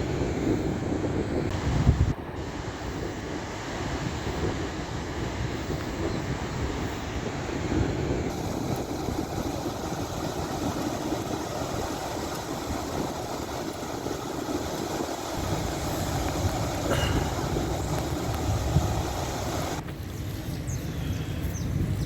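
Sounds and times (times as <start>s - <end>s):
sea surf rushing: 0.0s - 19.8s
wind buffeting microphone: 0.0s - 22.0s.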